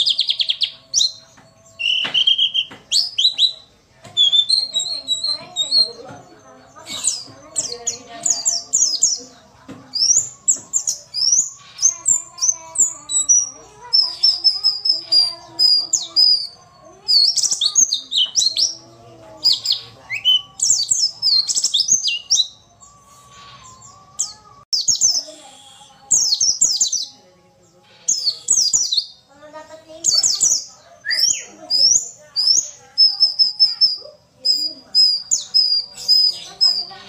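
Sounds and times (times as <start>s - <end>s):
bird chirping and twittering: 0.0s - 37.0s.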